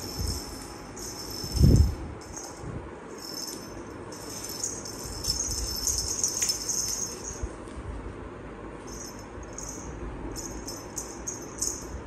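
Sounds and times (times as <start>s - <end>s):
small bell jingling: 0.0s - 7.5s, 8.9s - 12.0s.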